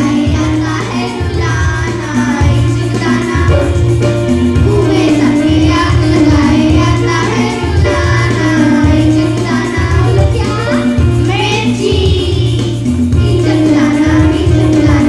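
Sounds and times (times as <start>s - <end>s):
child singing: 0.0s - 3.9s, 4.6s - 15.0s
backing track with pulsing bass: 0.0s - 15.0s.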